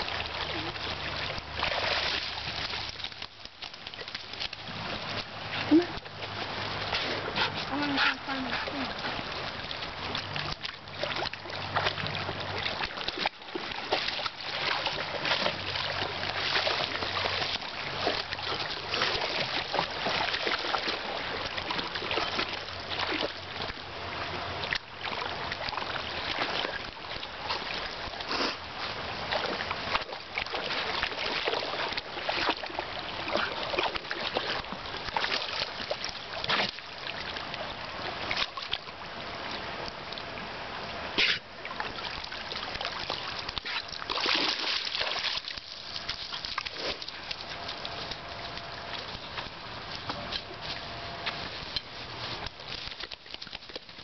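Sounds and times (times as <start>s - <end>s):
dog splashing through water: 0.0s - 39.9s, 41.0s - 54.0s
running water: 0.0s - 54.0s.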